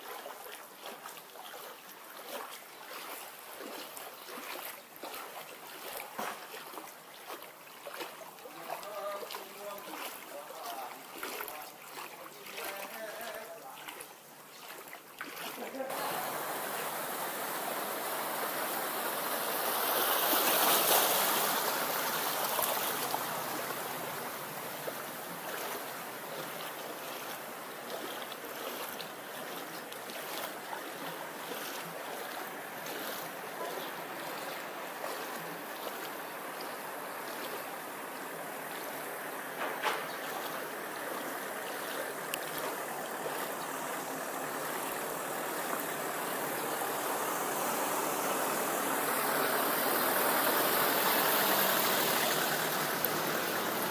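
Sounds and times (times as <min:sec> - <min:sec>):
floodwater rushing and sloshing: 0:00.0 - 0:53.9.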